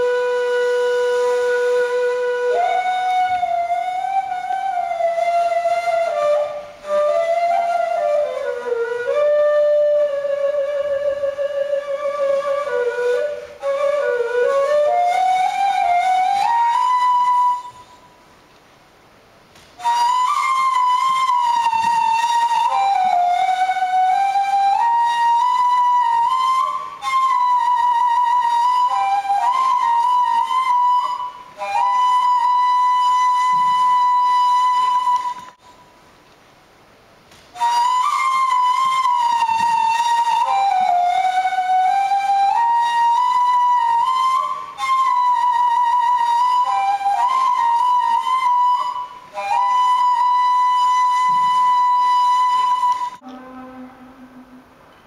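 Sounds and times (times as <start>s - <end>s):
solo flute slow melody: 0.0s - 36.0s, 37.4s - 55.0s.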